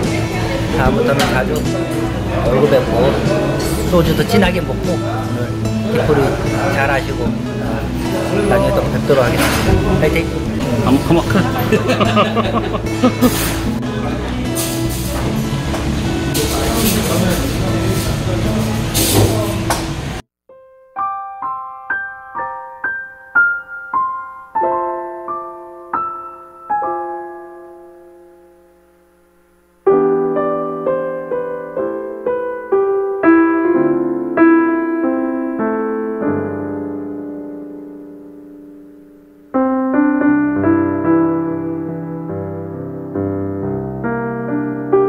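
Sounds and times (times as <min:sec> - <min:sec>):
piano music: 0:00.0 - 0:45.0.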